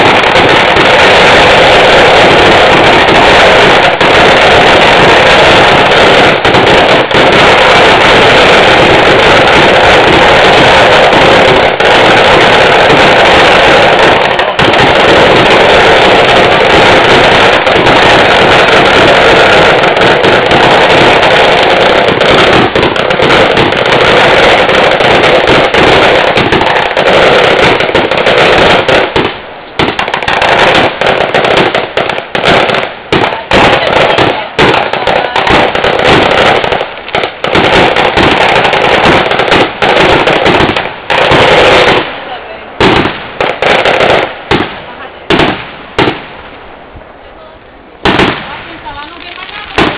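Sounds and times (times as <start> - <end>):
firecrackers crackling and banging: 0.0 - 49.9.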